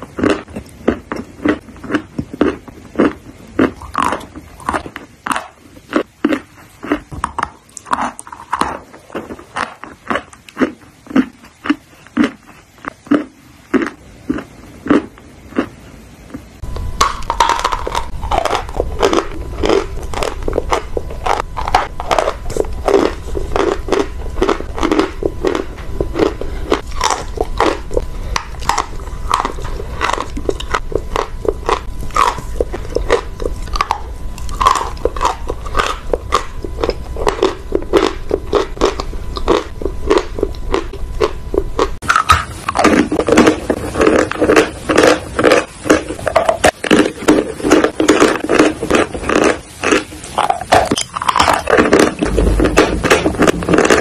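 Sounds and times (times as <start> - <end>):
chalk crunching as chewed: 0.0 - 54.0.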